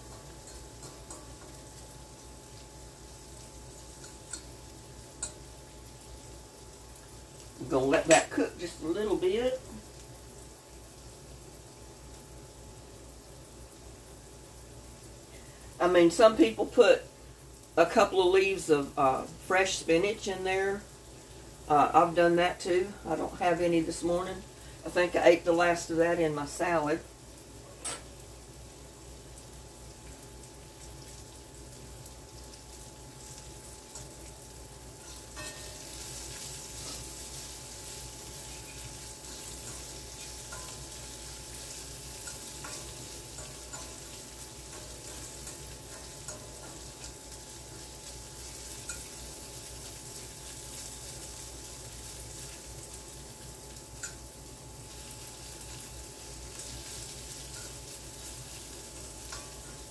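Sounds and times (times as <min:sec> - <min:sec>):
food sizzling in a skillet: 0:00.0 - 0:59.9.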